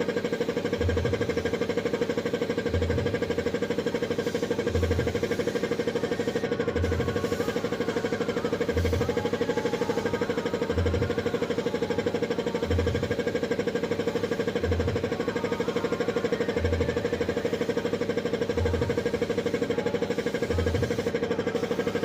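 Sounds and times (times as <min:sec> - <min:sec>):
machine pulsing: 0:00.0 - 0:22.0.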